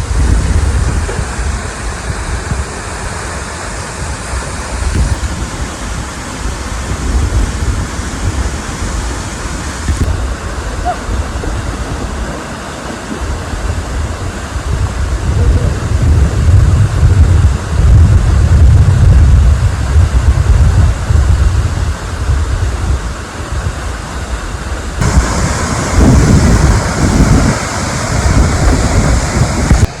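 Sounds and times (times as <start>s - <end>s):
waterfall rushing: 0.0s - 17.8s, 19.7s - 30.0s
wind buffeting microphone: 0.0s - 30.0s.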